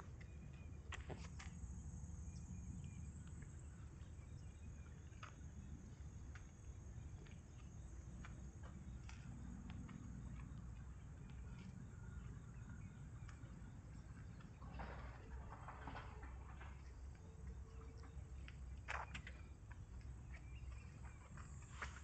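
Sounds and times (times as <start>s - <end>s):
low steady rumble: 0.0s - 21.8s.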